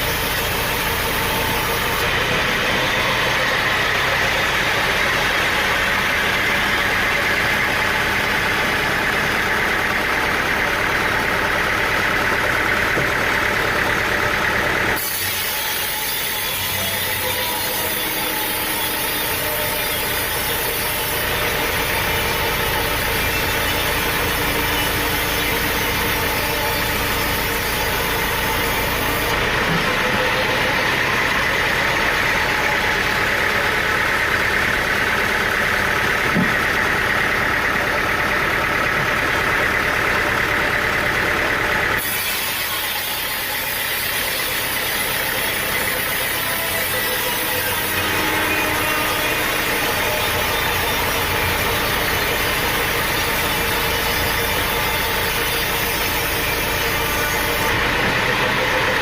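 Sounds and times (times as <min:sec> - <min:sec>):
machinery engine running: 0:00.0 - 0:59.0.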